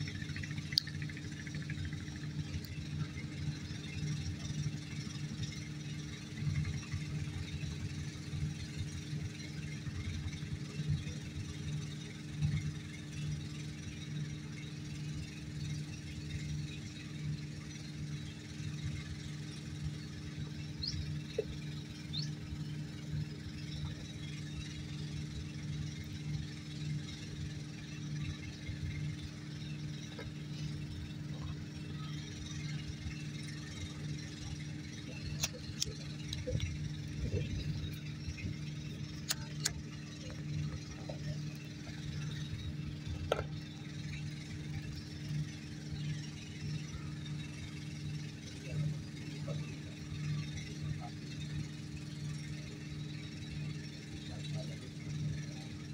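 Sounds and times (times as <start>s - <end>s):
engine idling: 0.0s - 55.9s
motor humming: 0.0s - 55.9s.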